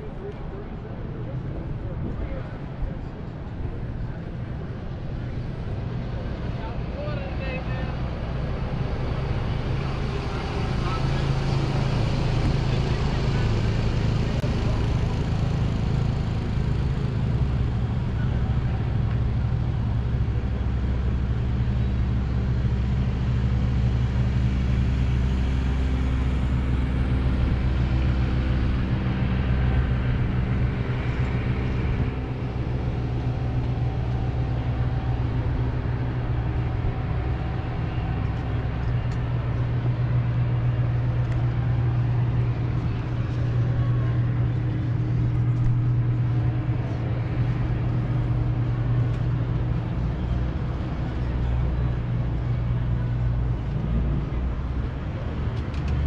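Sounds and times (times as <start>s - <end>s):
low engine hum: 0.0s - 56.0s.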